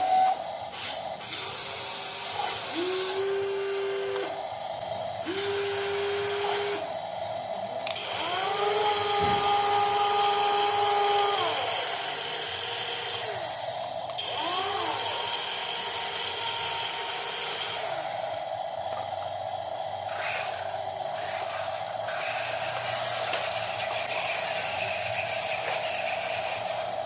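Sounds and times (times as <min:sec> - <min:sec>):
small electric motor whine: 0:00.0 - 0:04.4, 0:05.2 - 0:27.0.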